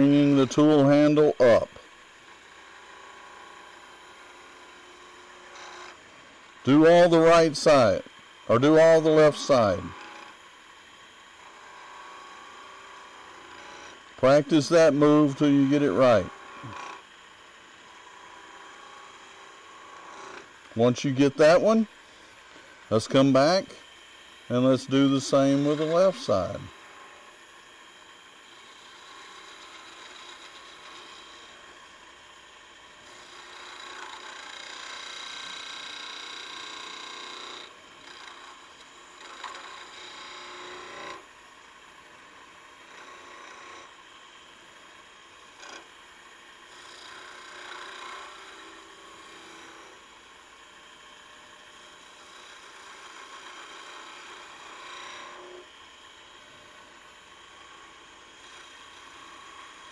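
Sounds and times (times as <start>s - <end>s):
chisel shaving hiss: 0.0s - 59.9s
wood lathe running: 0.0s - 59.9s.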